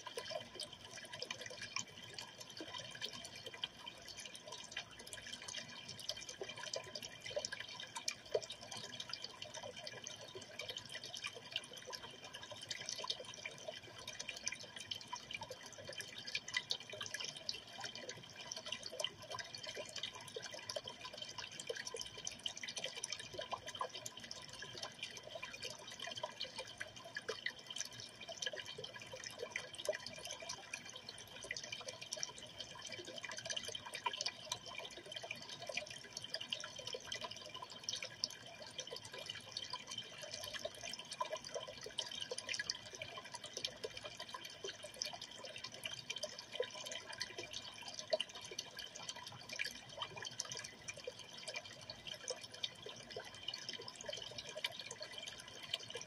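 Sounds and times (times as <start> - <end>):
water trickling and dripping: 0.0 - 56.0.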